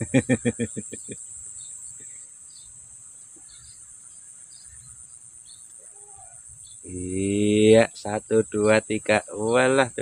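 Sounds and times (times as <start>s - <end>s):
faint bird chirps: 0.0s - 10.0s
insect chorus trilling: 0.0s - 10.0s.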